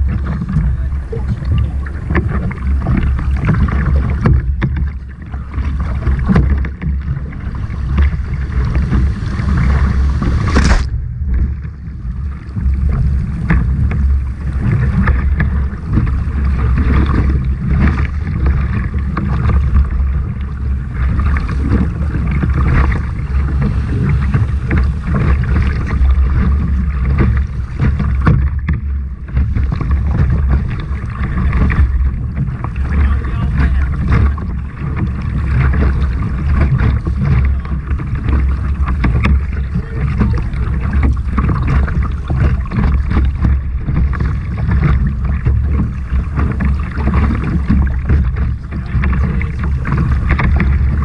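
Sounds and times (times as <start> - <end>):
sharp rush of water: 0.0 - 51.0
water splashing around kayak: 0.0 - 51.0
wind rumble on microphone: 0.0 - 51.0.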